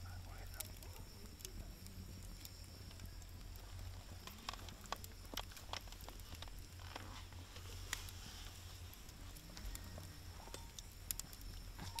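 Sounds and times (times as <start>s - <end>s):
faint low hum: 0.0s - 12.0s
wood fire crackling: 0.0s - 12.0s.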